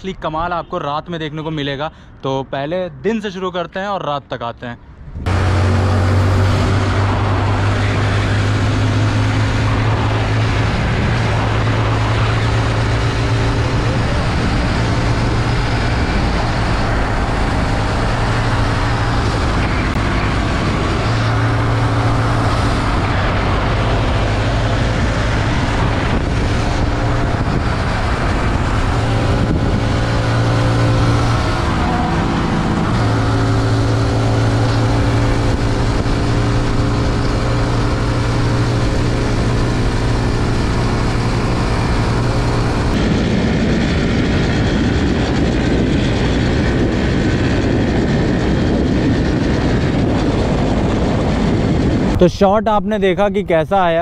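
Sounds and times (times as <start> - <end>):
motorcycle engine running: 5.3 - 52.2.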